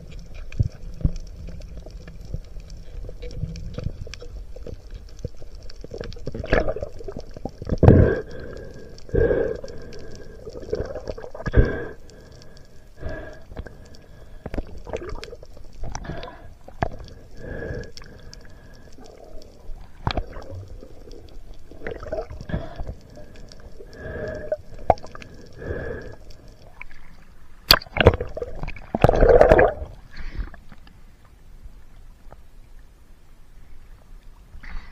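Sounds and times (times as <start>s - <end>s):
underwater water movement: 0.0s - 34.9s.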